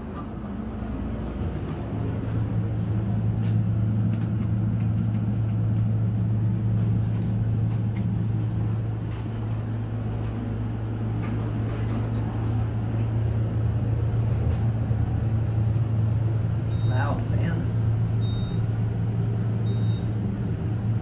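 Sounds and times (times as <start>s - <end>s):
elevator doors closing: 0.0s - 5.2s, 6.6s - 21.0s
elevator low hum: 0.0s - 21.0s.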